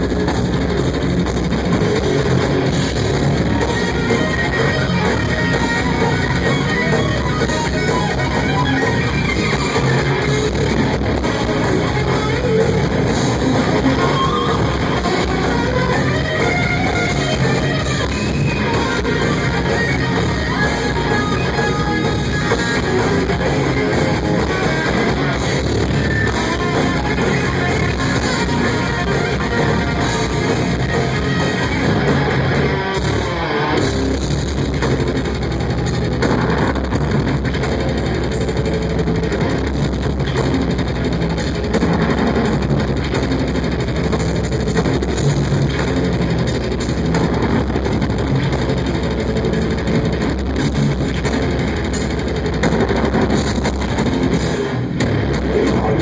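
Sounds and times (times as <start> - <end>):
death metal band playing live: 0.0 - 56.0.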